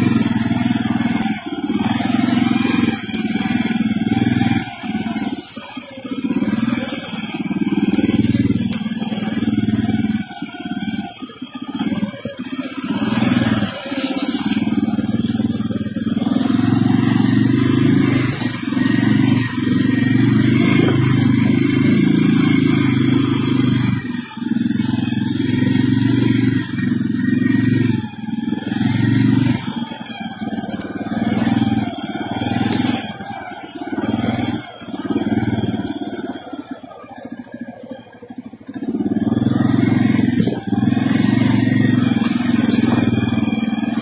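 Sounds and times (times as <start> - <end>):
atv engine under throttle: 0.0 - 44.0.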